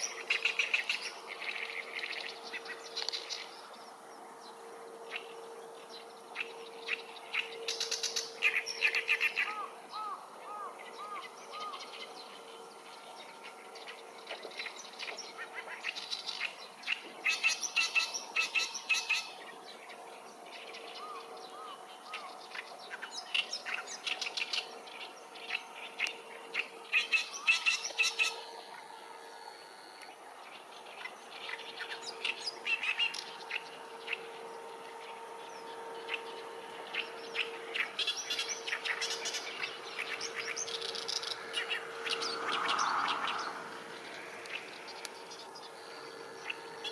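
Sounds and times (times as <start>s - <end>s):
faint steady hum: 0.0s - 46.9s
small birds chirping: 0.0s - 46.9s.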